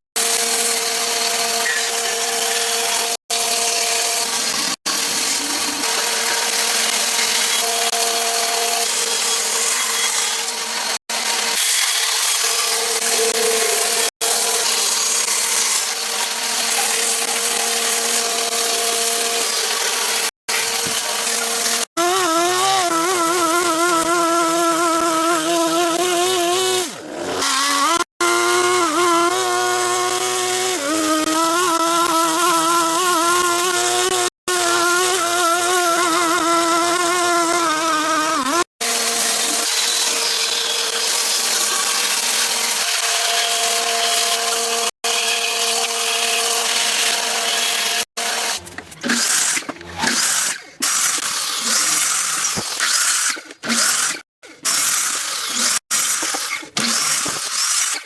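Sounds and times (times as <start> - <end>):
power saw motor buzzing: 0.2 - 58.0.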